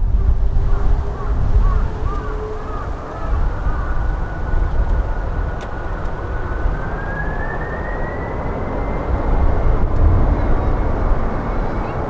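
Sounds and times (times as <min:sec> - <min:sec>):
jet engines roaring with whine: 0:00.0 - 0:12.0.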